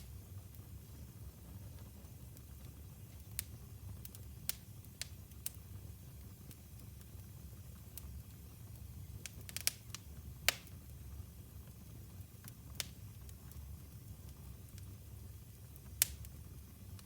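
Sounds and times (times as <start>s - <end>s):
wood fire popping: 0.0s - 11.0s, 11.6s - 14.9s, 15.6s - 17.0s
fire low rumble: 0.0s - 17.0s.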